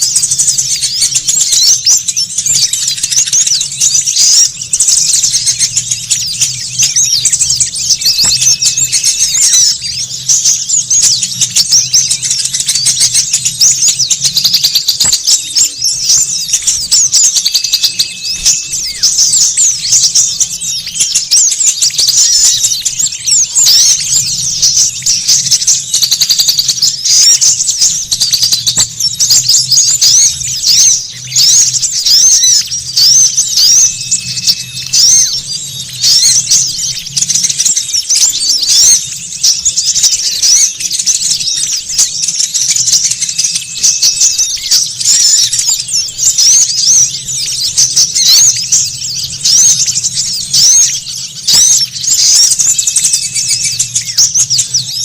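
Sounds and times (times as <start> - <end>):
songbirds chattering and chirping: 0.0 - 55.0.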